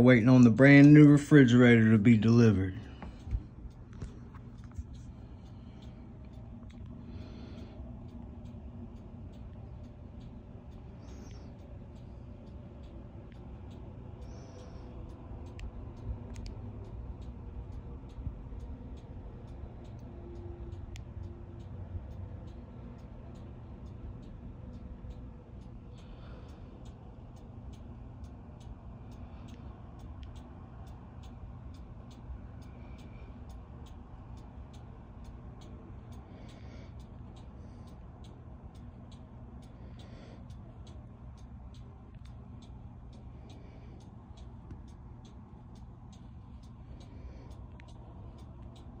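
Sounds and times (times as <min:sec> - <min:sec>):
constant low rumble: 0:00.0 - 0:49.0
steady ticking: 0:00.0 - 0:49.0.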